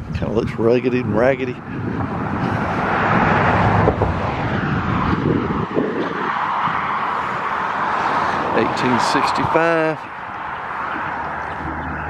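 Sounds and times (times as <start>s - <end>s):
traffic rushing hum: 0.0s - 12.0s.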